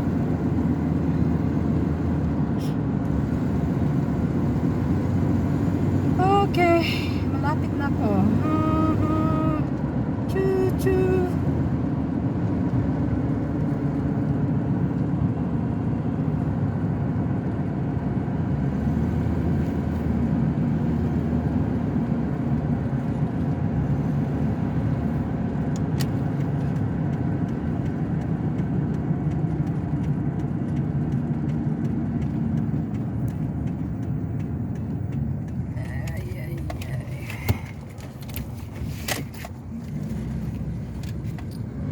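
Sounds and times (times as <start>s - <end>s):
truck engine and road noise: 0.0s - 41.9s.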